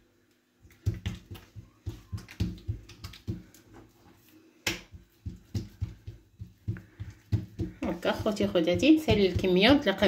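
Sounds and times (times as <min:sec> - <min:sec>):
hands slapping dough: 0:00.6 - 0:10.0.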